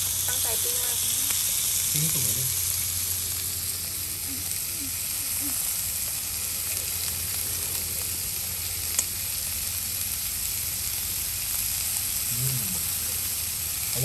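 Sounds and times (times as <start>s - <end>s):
meat sizzling on a griddle: 0.0s - 14.0s.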